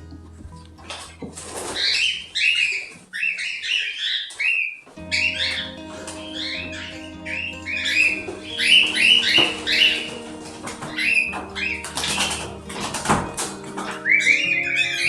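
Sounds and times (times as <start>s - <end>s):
background music: 0.0s - 3.5s, 5.0s - 15.0s
pet birds chirping: 0.5s - 15.0s
wings flapping: 0.8s - 15.0s.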